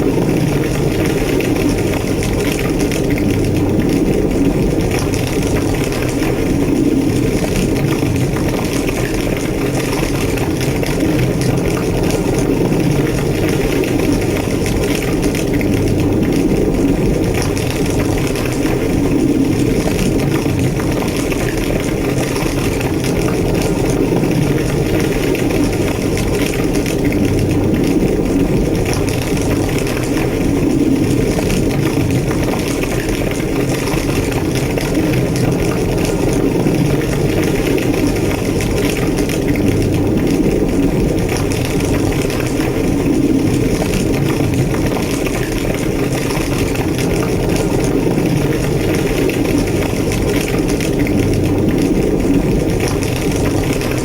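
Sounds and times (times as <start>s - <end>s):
fire crackling: 0.0s - 54.0s
large fire roaring: 0.0s - 54.0s.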